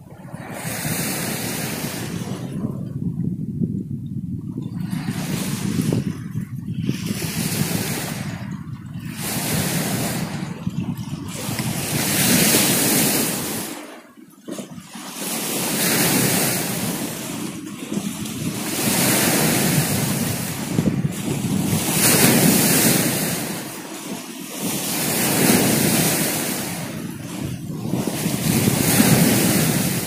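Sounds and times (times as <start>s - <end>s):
sea waves rushing: 0.0s - 3.2s, 4.4s - 30.0s
wind buffeting microphone: 0.0s - 30.0s.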